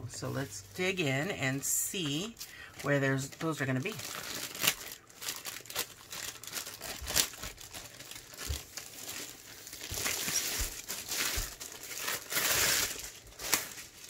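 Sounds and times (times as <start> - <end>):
plastic wrap crinkling: 0.2 - 14.0.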